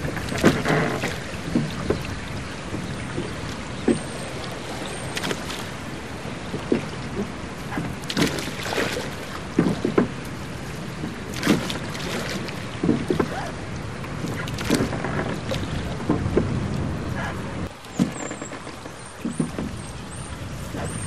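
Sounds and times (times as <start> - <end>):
oars splashing through water: 0.0 - 21.0
steady wash of water: 0.0 - 21.0.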